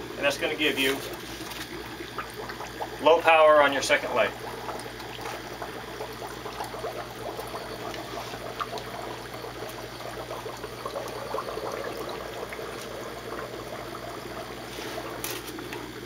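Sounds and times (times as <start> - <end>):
air bubbling and splashing water: 0.0 - 16.0
air pump low hum: 0.0 - 16.0.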